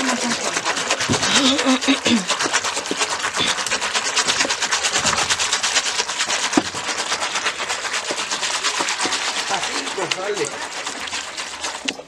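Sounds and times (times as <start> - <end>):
whisk swishing and sloshing drink: 0.0 - 12.0.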